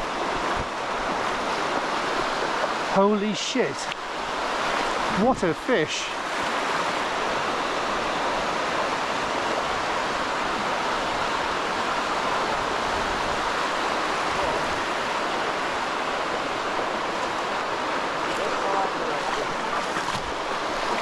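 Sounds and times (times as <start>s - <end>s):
surf washing over sand: 0.0s - 21.0s.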